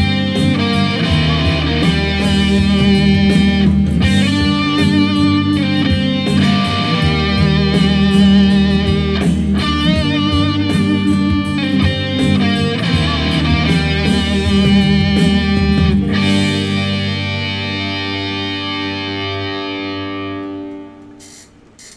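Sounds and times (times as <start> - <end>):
steady low bass: 0.0 - 17.8
electric guitar melody: 0.0 - 21.8.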